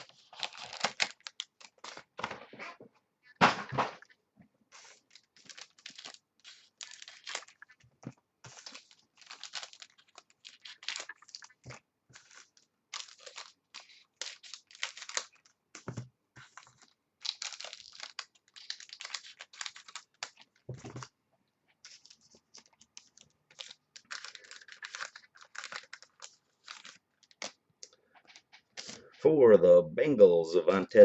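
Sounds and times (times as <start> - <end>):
cards rustling and crinkling: 0.0 - 29.2.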